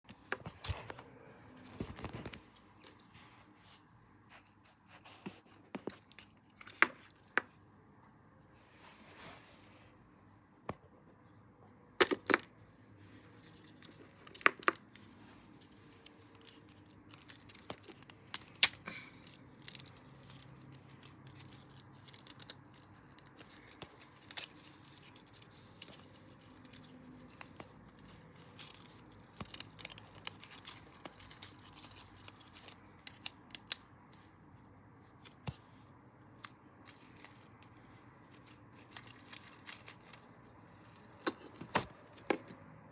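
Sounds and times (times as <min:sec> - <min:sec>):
rustling and scraping of parts: 0:00.1 - 0:10.9, 0:12.0 - 0:42.9.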